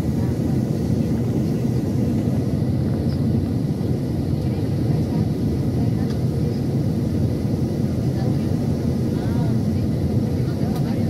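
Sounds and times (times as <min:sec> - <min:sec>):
airflow over fuselage: 0:00.0 - 0:11.0
jet engine rumble: 0:00.0 - 0:11.0.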